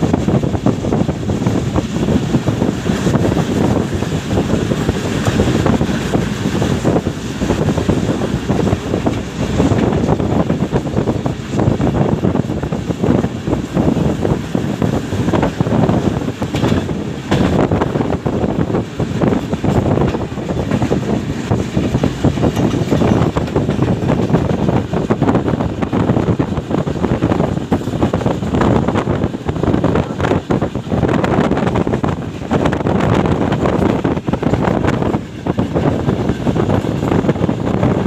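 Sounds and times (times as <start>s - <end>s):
train wheels rumbling on rails: 0.0s - 38.0s
wind buffeting microphone: 0.0s - 38.0s.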